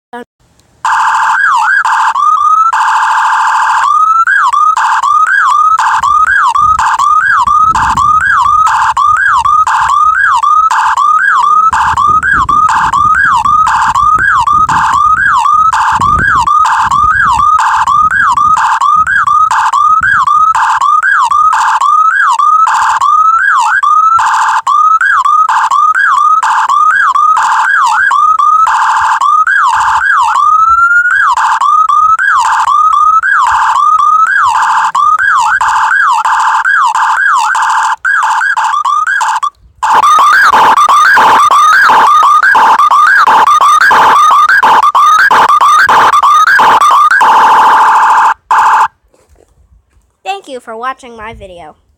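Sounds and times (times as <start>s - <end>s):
electronic siren sweeping: 0.8s - 48.9s.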